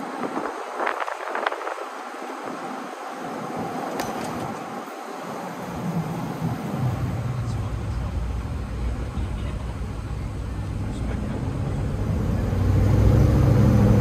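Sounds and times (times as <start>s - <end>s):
car engine rumble: 0.0s - 14.0s
road and wind noise: 0.0s - 14.0s.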